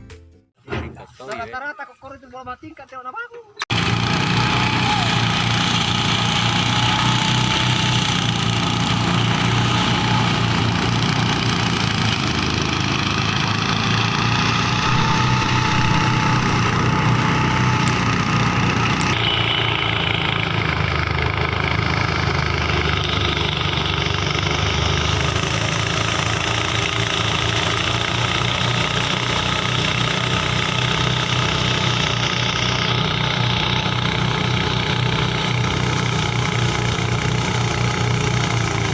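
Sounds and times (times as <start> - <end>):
diesel engine running: 3.7 - 38.9.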